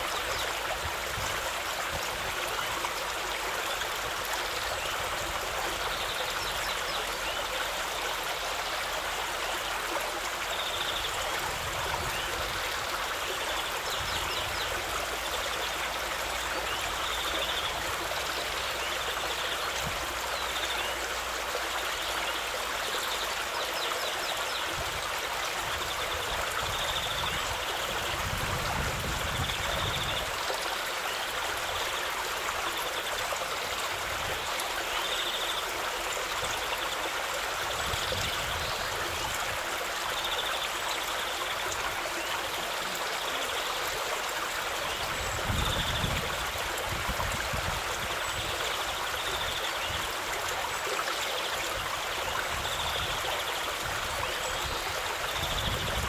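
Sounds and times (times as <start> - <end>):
water rushing over stones: 0.0 - 56.0.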